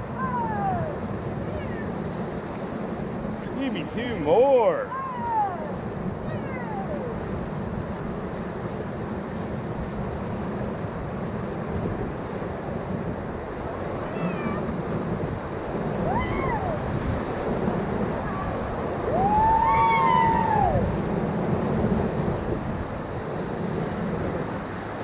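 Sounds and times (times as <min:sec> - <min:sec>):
river rapids rushing: 0:00.0 - 0:08.8, 0:13.1 - 0:25.0.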